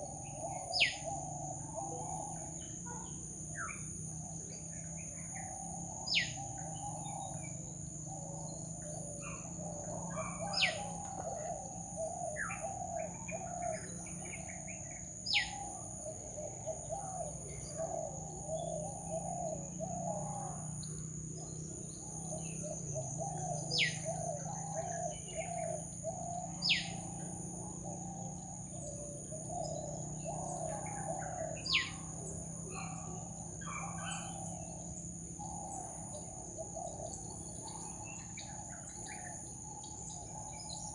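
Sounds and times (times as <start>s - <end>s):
high insect drone: 0.0s - 40.9s
low warbling bird chorus: 0.0s - 40.9s.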